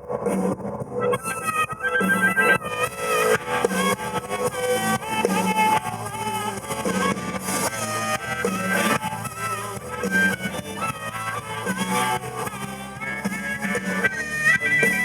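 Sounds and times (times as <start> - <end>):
blues band instrumental: 0.0 - 15.0.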